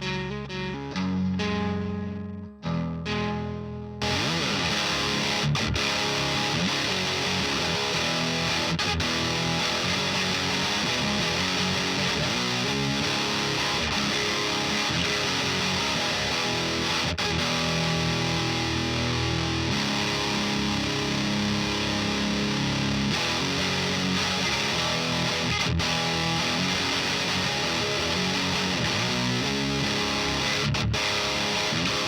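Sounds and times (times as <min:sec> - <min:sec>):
distorted electric guitar riffs: 0:00.0 - 0:32.0.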